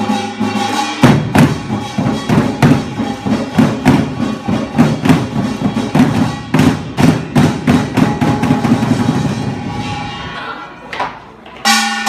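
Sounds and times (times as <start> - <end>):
barrel drums beating rhythm: 0.0 - 10.1.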